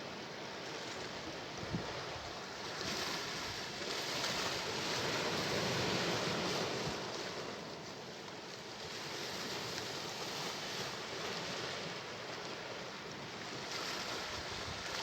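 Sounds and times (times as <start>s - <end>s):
sea waves washing on shore: 0.0s - 15.0s.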